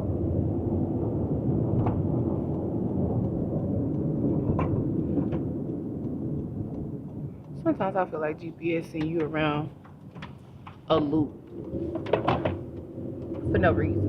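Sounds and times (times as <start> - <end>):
road rumble in car: 0.0 - 14.0
faint ticks: 0.3 - 14.0.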